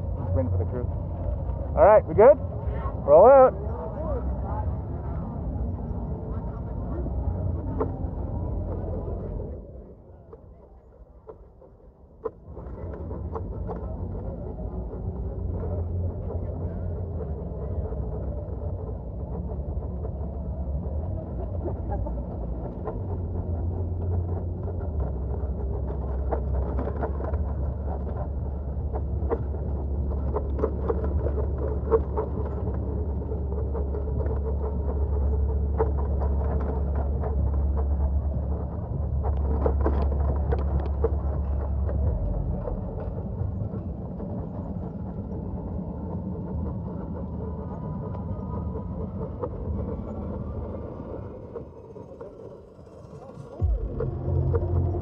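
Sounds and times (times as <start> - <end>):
wind and road rumble: 0.0 - 55.0.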